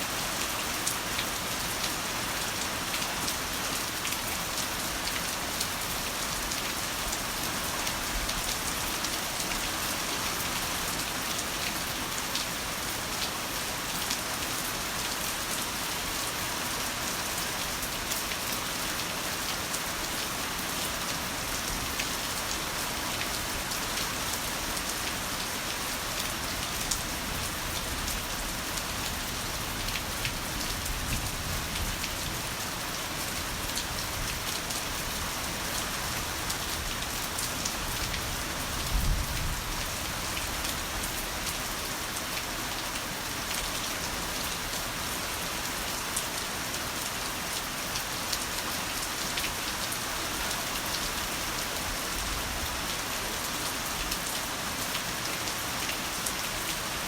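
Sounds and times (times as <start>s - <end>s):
heavy rain on a hard surface: 0.0s - 57.0s.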